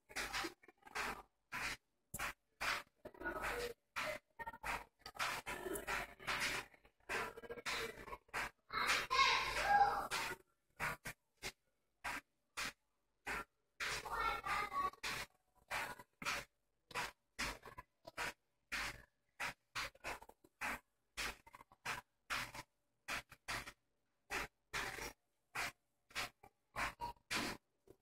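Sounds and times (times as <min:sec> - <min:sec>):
cat scratching a rug: 0:00.1 - 0:27.6.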